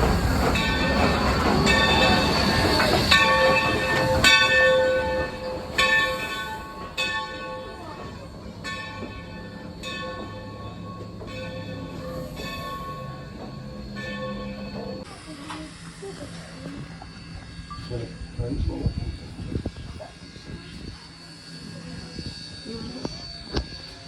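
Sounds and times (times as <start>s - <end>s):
railroad bell ringing: 0.0s - 24.0s
train running: 0.0s - 24.0s.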